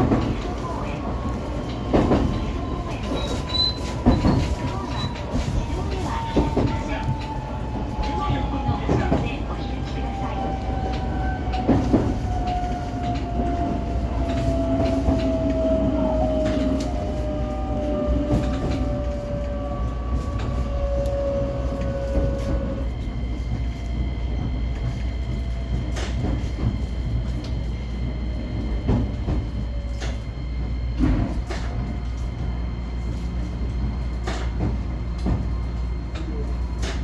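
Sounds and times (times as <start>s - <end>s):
rail clicks: 0.0s - 37.0s
train electric motor whine: 0.0s - 37.0s
train running rumble: 0.0s - 37.0s.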